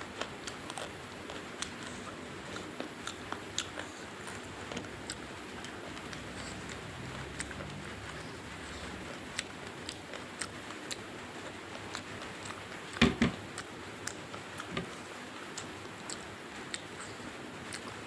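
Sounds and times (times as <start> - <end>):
wet chewing clicks and smacks: 0.1 - 18.0.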